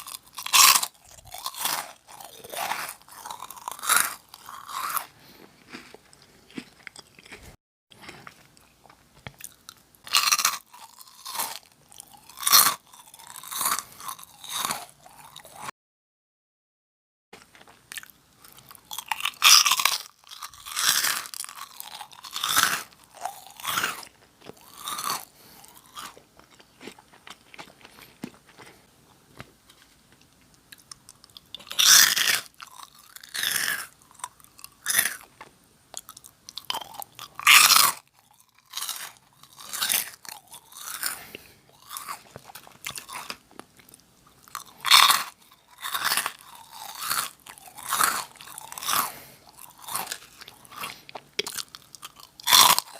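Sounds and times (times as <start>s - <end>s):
crunching and chewing snack: 0.0s - 15.7s, 17.4s - 52.9s.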